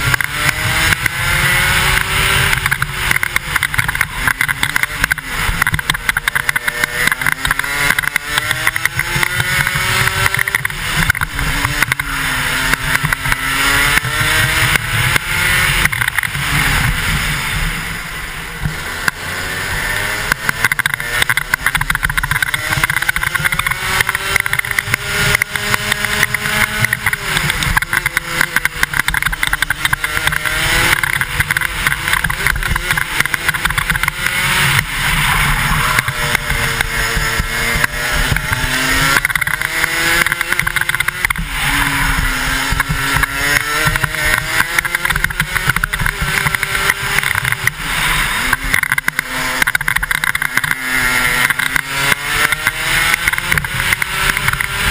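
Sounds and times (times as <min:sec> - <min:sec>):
kart engine accelerating: 0:00.0 - 0:54.9.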